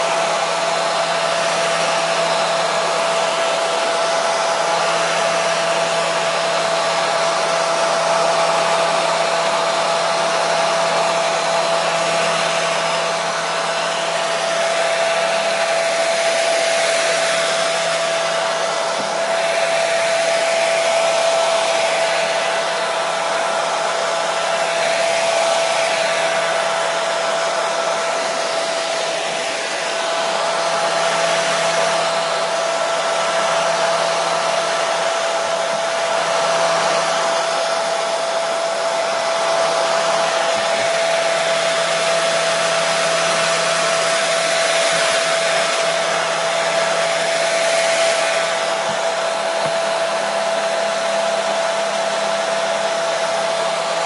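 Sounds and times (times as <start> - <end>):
hair dryer running: 0.0 - 54.0
motor whine: 0.0 - 54.0.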